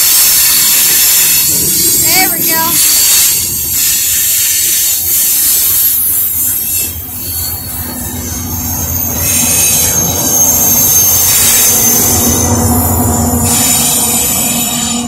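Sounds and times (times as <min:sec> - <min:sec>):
diesel locomotive engine hum: 0:00.0 - 0:15.0
train wheels squealing on rails: 0:00.0 - 0:15.0.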